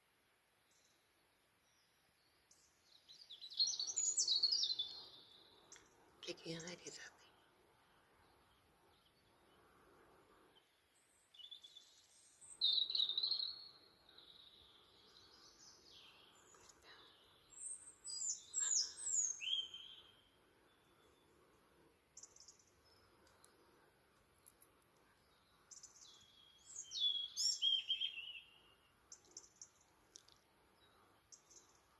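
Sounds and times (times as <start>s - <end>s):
faint background noise: 0.0s - 31.9s
songbird singing: 0.0s - 31.9s.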